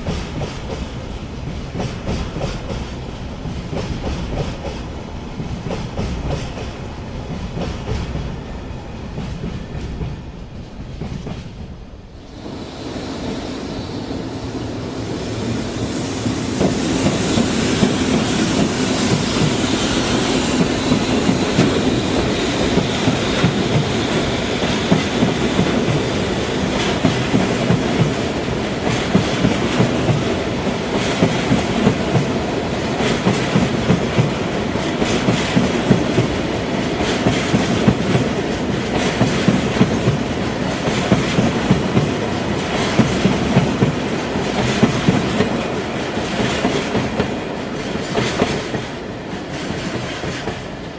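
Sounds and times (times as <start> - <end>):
freight train wagons rumbling: 0.0 - 50.9.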